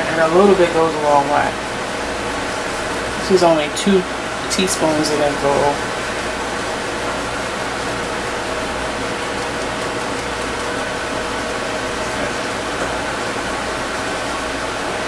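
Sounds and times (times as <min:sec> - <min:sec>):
fan-like hum and hiss: 0:00.0 - 0:15.0.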